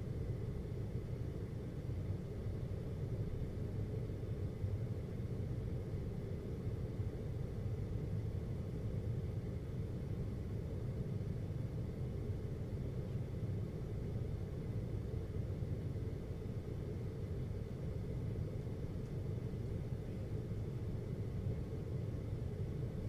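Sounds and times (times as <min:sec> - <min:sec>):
air conditioner humming: 0:00.0 - 0:23.0
faint thin whine: 0:00.0 - 0:23.0.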